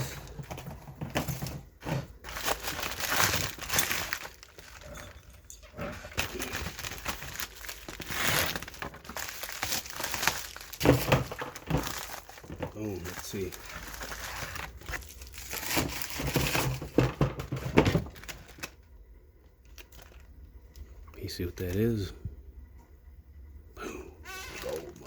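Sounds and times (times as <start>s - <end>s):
packaging crinkling and rustling: 0.0s - 18.9s, 19.5s - 20.9s, 24.3s - 25.0s.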